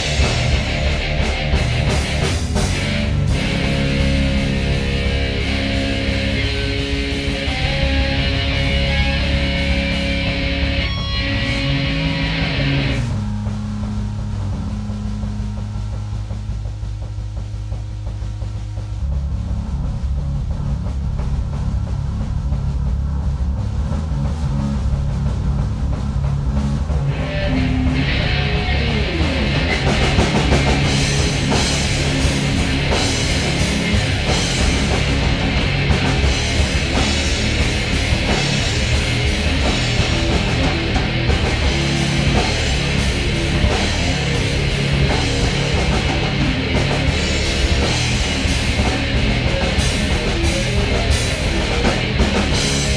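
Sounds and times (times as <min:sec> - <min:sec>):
rock jam with electric guitar: 0:00.0 - 0:52.9.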